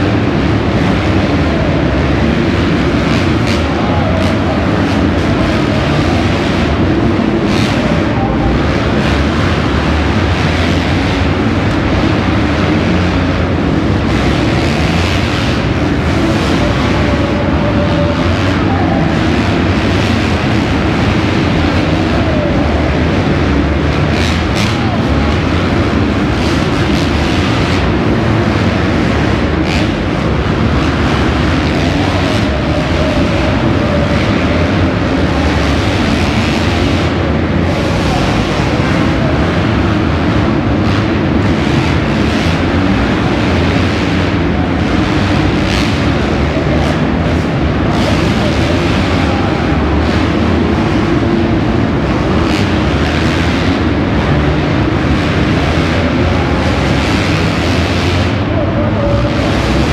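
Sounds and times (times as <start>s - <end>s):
motocross bike engines racing: 0.0s - 59.9s.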